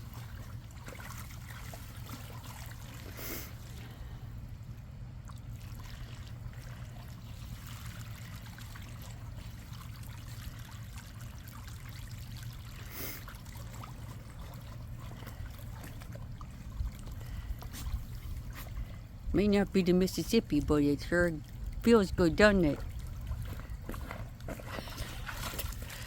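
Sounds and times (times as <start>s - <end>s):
water trickling from hose into pool: 0.0s - 26.0s.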